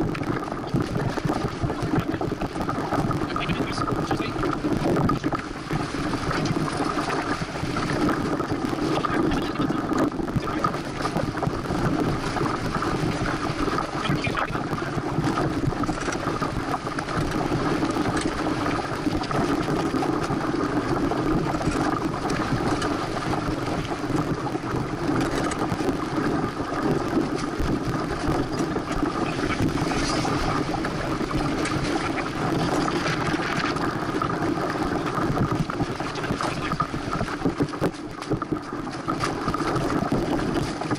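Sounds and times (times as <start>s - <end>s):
hull moving through water: 0.0s - 40.9s
wind blowing across microphone: 0.0s - 40.9s.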